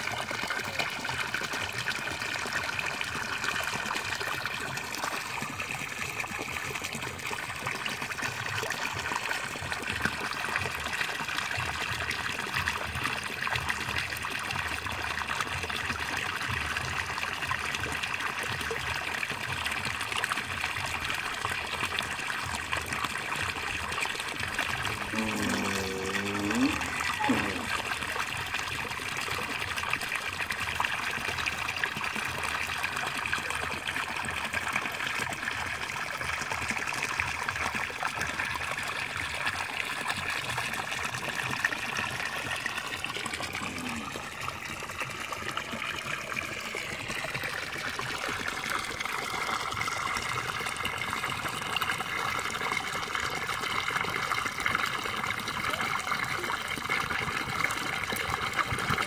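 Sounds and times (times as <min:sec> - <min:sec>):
water gushing into pond: 0:00.0 - 0:59.0.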